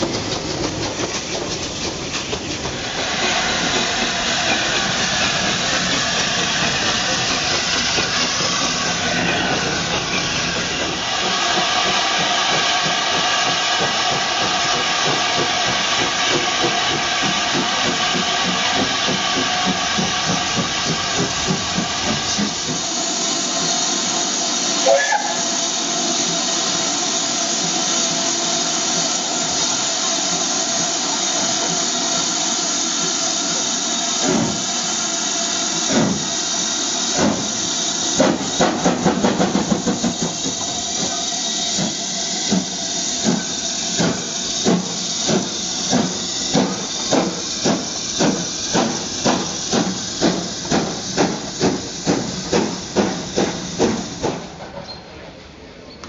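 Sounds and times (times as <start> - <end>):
steam locomotive chuffing: 0.0 - 55.0
steam locomotive hissing steam: 0.0 - 56.0.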